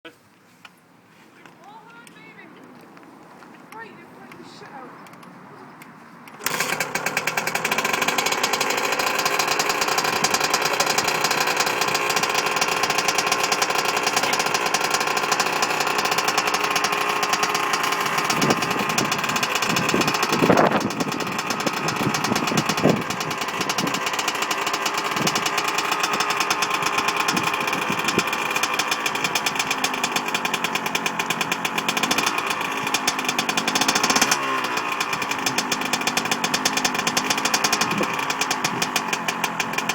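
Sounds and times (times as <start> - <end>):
two-stroke motorbike engine idling and revving: 1.6 - 2.4, 3.7 - 39.9.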